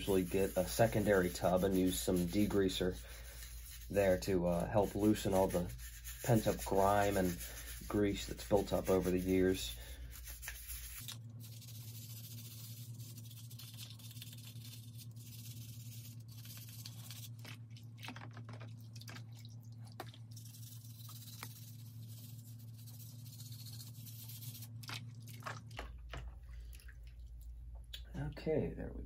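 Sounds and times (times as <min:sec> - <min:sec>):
toothbrush scrubbing plastic parts: 0:00.0 - 0:26.5
steady low hum: 0:00.0 - 0:29.0.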